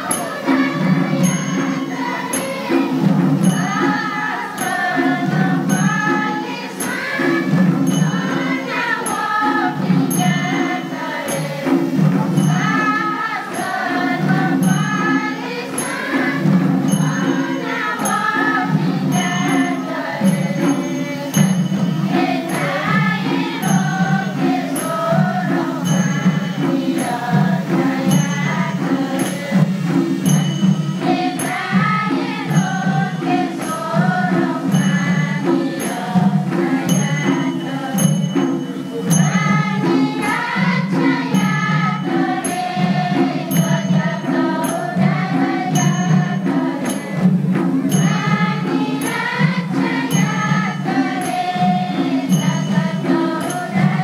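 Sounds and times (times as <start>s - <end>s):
barrel drums beating: 0.0s - 54.0s
women's choir singing: 0.0s - 54.0s.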